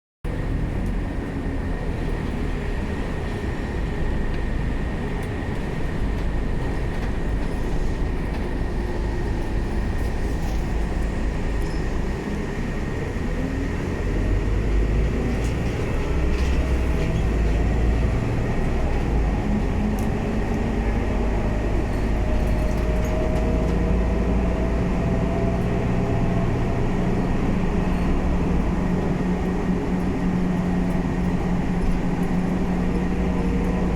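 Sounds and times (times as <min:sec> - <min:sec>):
bus engine rumbling: 0:00.2 - 0:33.9.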